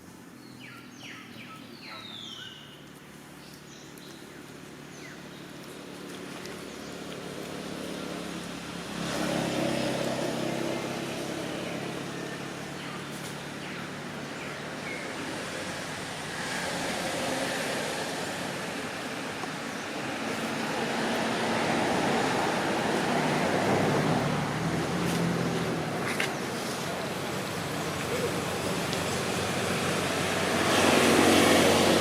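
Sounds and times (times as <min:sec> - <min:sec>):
vehicle engine: 0:02.8 - 0:32.0
vehicle passing: 0:03.1 - 0:32.0.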